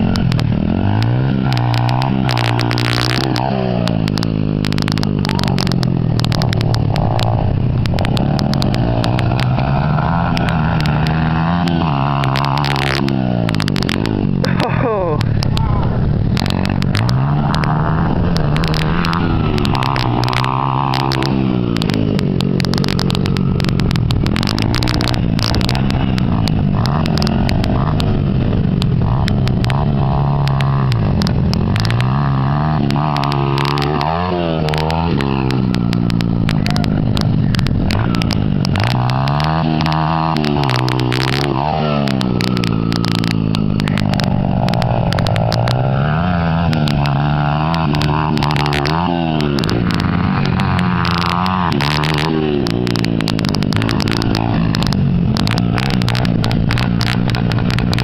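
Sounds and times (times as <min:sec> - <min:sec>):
dirt bike engines revving: 0:00.0 - 0:58.0
sharp engine crackles: 0:00.0 - 0:58.0.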